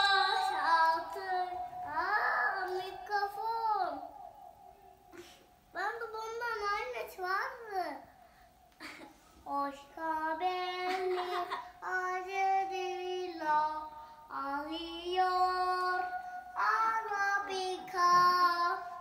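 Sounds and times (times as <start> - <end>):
boy singing: 0.0 - 8.0, 9.4 - 19.0.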